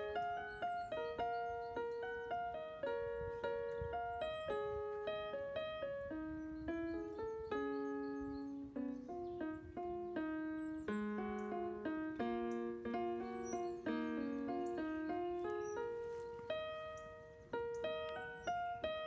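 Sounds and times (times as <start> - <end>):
electronic keyboard piano melody: 0.0 - 19.0.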